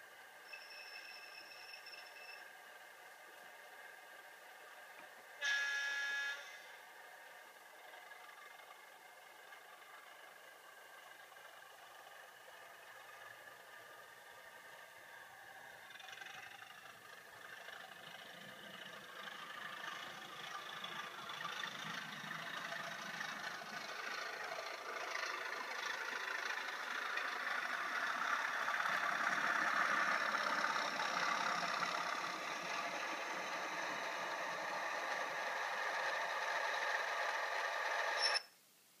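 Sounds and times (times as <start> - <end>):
diesel engine sound through small speaker: 0.0 - 38.4.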